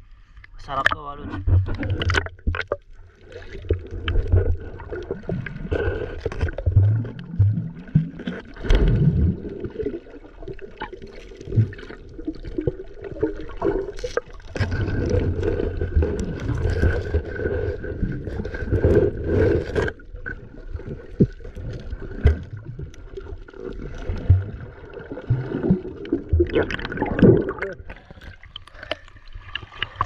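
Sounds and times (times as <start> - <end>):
muffled underwater water movement: 0.0 - 30.0.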